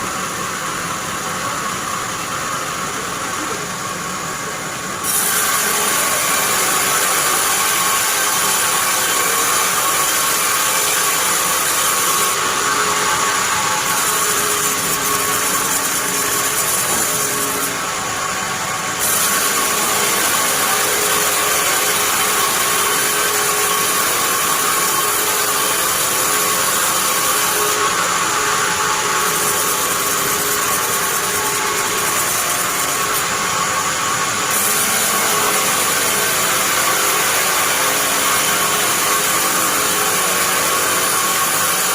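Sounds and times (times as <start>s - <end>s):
bandsaw whine: 0.0s - 41.9s.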